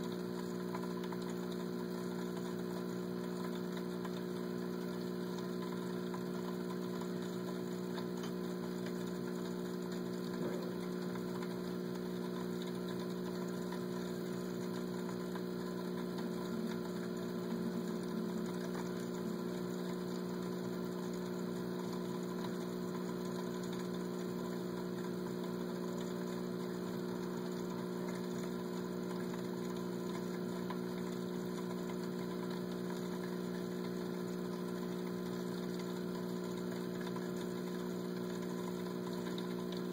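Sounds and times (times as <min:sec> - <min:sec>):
aquarium pump humming: 0:00.0 - 0:39.9.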